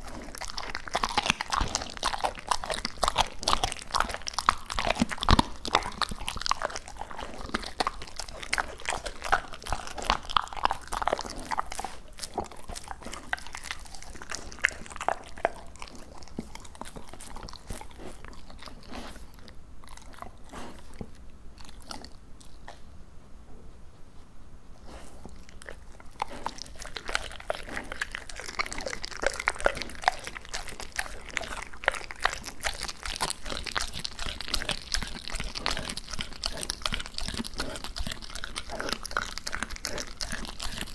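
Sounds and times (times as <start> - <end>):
dog chewing wet crunching: 0.0 - 22.9, 24.8 - 40.9.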